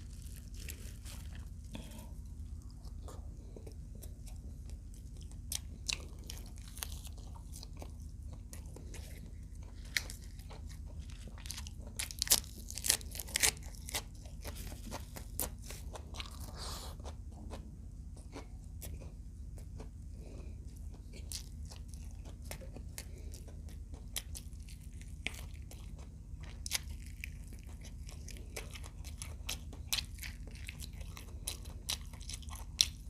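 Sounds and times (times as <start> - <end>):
crunching and chewing food: 0.0 - 33.0
steady low hum: 0.0 - 33.0.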